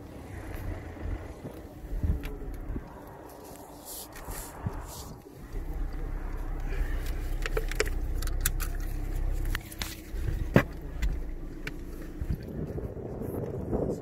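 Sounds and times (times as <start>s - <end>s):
car rumble inside cabin: 0.0s - 14.0s.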